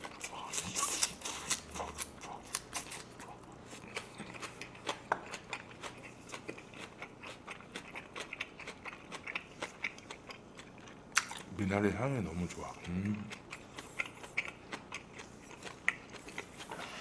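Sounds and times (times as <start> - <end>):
person chewing with crunches: 0.0 - 17.0.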